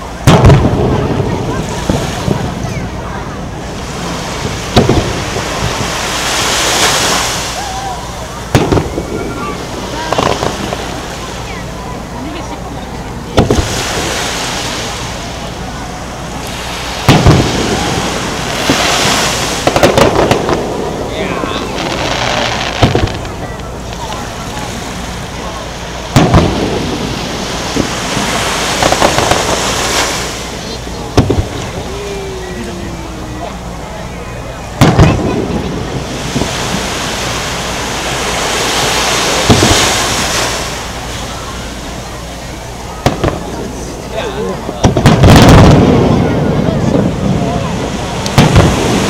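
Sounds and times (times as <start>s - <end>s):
firework cracks: 0.0s - 2.6s, 3.6s - 7.7s, 8.4s - 11.5s, 13.3s - 15.7s, 16.3s - 32.8s, 34.7s - 42.2s, 42.9s - 43.8s, 44.6s - 49.0s
firework booms: 0.0s - 7.6s, 8.4s - 11.5s, 13.3s - 31.9s, 34.7s - 41.4s, 42.9s - 43.9s, 44.6s - 49.0s
steady rushing noise: 0.0s - 49.0s.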